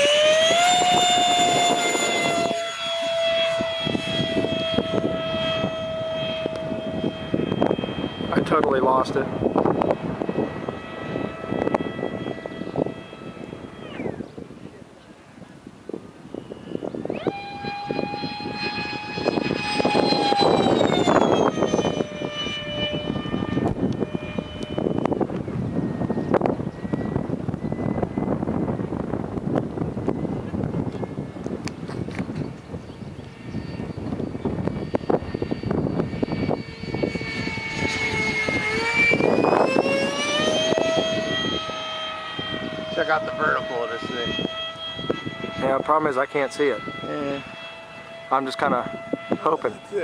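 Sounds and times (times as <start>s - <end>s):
rc jet fan high whine: 0.0s - 50.0s.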